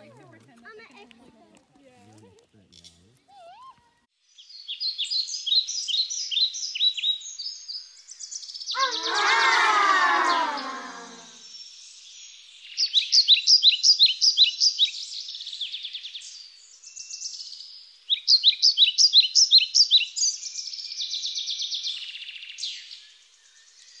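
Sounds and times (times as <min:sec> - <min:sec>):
small bird singing: 0:04.2 - 0:24.0.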